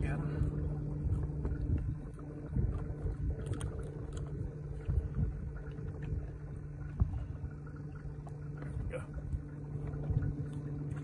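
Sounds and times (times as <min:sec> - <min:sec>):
faint steady hum: 0:00.0 - 0:11.0
wind rumbling on microphone: 0:00.0 - 0:11.0.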